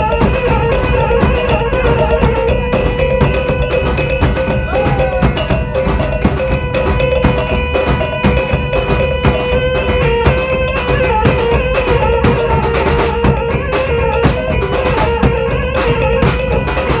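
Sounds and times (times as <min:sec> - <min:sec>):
drums and percussion beat: 0:00.0 - 0:17.0
long held melody line: 0:00.0 - 0:17.0.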